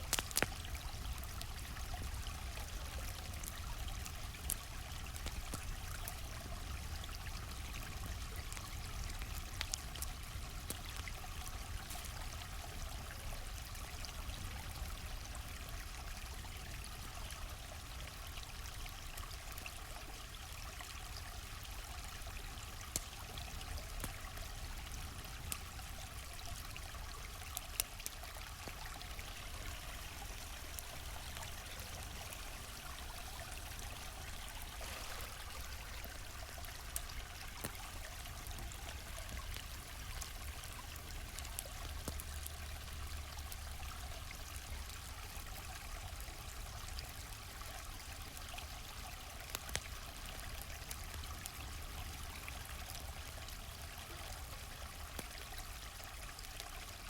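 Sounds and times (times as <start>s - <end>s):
campfire crackling and popping: 0.0s - 57.0s
stream flowing: 0.0s - 57.0s.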